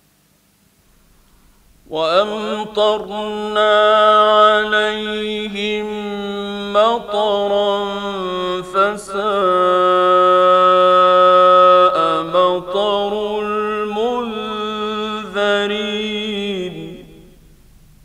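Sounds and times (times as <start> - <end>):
faint low hum: 0.0 - 18.0
man chanting: 1.9 - 17.4.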